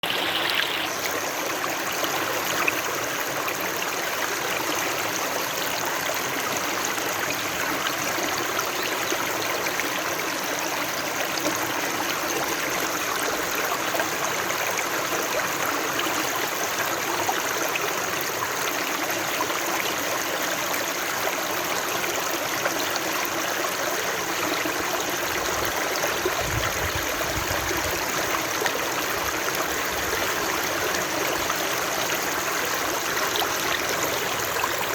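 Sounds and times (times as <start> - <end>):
flowing water: 0.0 - 34.9.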